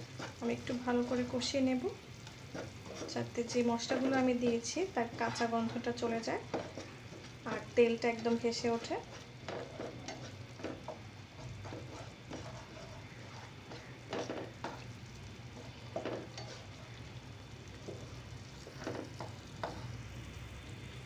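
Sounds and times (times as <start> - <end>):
spatula scraping frying pan: 0.0 - 20.0
paste sizzling in oil: 0.0 - 21.0
steady low hum: 0.0 - 21.0.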